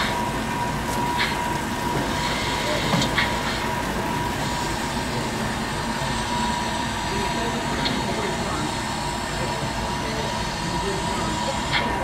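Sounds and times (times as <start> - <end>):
busy exhibition hall noise: 0.0 - 12.0.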